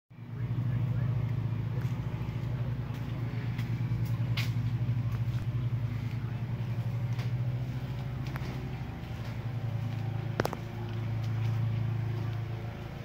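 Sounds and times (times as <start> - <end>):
low mechanical hum: 0.2 - 13.0.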